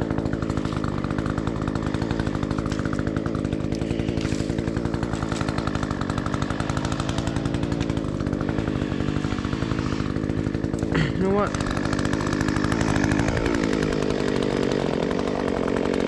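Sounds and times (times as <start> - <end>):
brush cutter engine cutting: 0.0 - 16.0.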